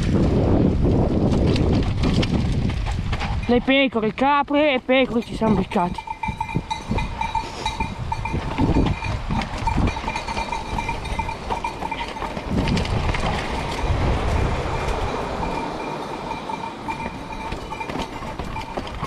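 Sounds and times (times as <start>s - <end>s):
bike tyres rumbling on trail: 0.0s - 19.0s
wind on microphone: 0.0s - 19.0s.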